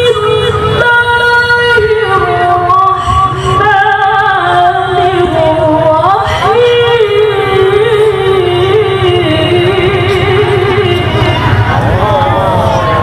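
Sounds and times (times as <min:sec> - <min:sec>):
woman reciting melodically: 0:00.0 - 0:11.8.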